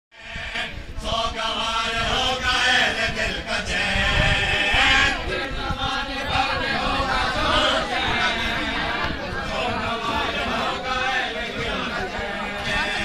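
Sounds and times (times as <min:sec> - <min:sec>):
men chanting mournfully: 0:00.2 - 0:13.0.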